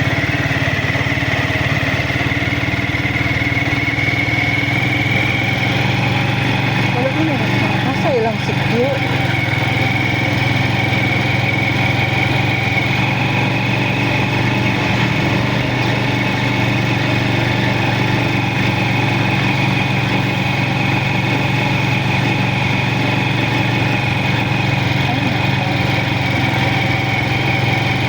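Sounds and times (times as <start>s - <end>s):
small motorcycle engine droning: 0.0s - 28.0s.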